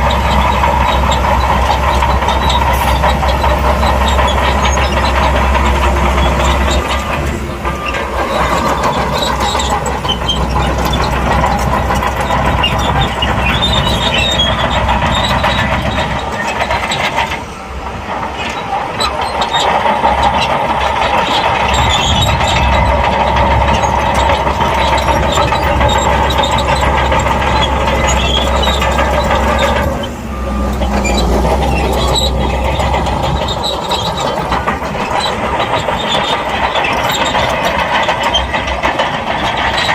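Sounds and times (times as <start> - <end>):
bulldozer diesel engine: 0.0 - 39.9
steel tracks clanking: 0.0 - 39.9.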